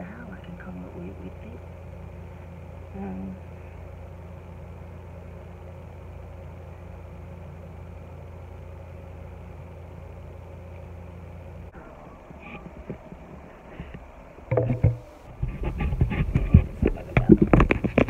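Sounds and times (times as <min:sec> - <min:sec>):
steady low machine hum: 0:00.0 - 0:18.0.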